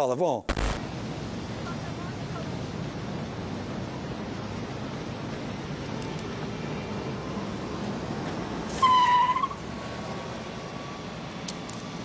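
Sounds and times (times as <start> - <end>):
passing cars: 1.0 - 12.0.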